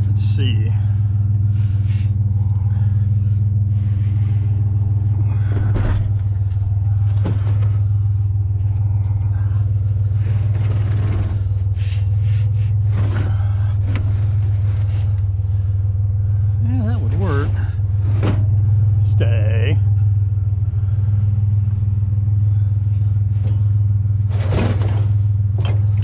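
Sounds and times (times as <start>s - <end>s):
pickup truck engine idling: 0.0s - 26.0s.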